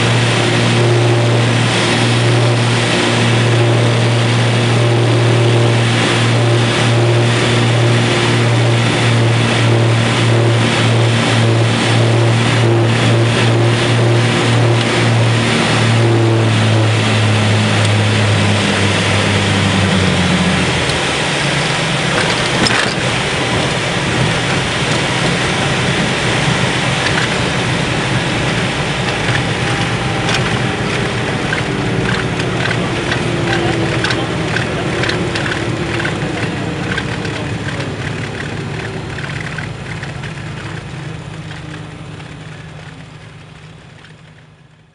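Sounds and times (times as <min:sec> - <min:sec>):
rushing air: 0:00.0 - 0:43.0
aircraft cabin engine drone: 0:00.0 - 0:44.9.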